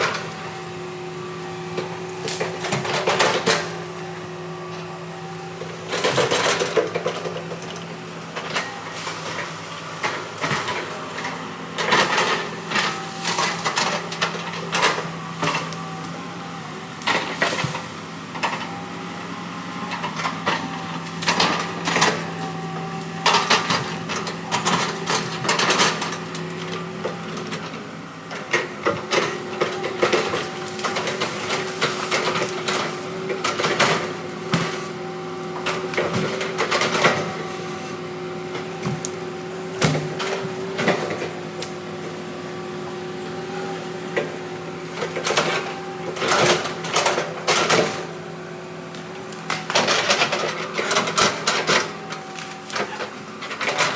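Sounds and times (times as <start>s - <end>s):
heavy diesel machine running: 0.0s - 53.9s.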